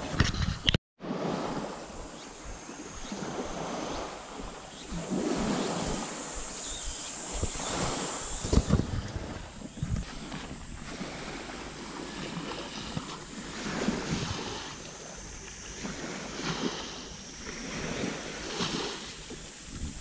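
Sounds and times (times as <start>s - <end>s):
wind on microphone: 0.0s - 20.0s
small waves washing onto beach: 1.0s - 20.0s.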